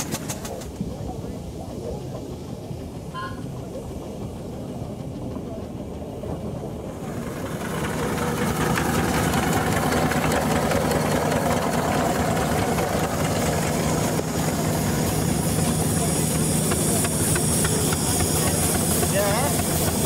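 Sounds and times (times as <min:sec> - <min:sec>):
engine running with clatter: 0:00.0 - 0:20.0.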